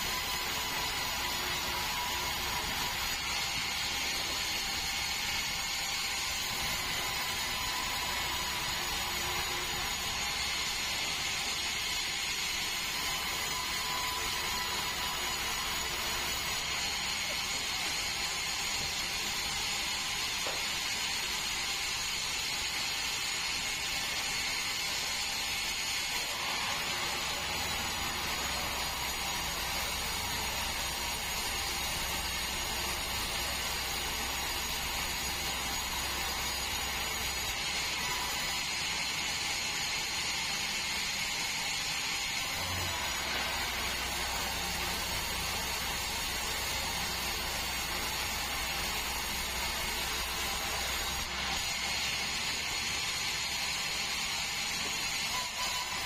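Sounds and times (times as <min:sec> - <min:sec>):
sawmill mechanical whine: 0:00.0 - 0:56.0.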